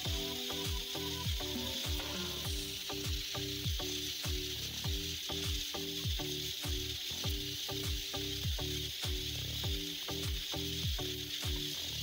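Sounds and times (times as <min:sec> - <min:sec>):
music with thumping beat: 0:00.0 - 0:12.0
pressure cooker hissing: 0:00.0 - 0:12.0.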